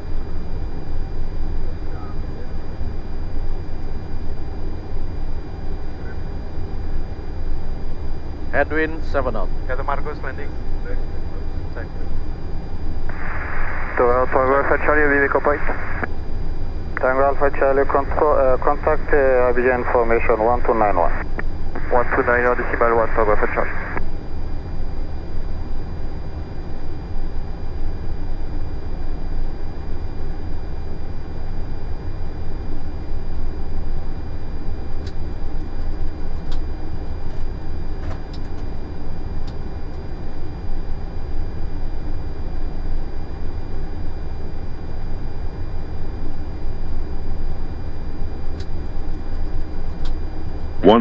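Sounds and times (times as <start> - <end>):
deep aircraft rumble: 0.0 - 51.0.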